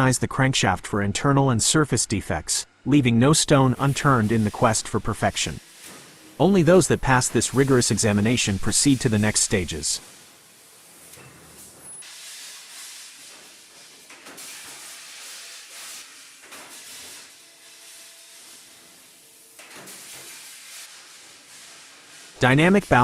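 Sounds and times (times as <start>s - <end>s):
hissing noise: 3.5s - 23.0s.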